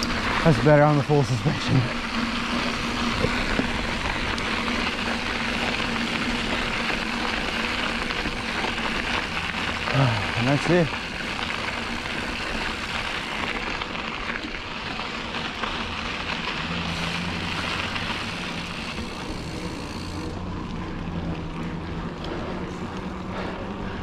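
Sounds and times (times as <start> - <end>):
mountain bike riding on dirt: 0.0 - 24.0.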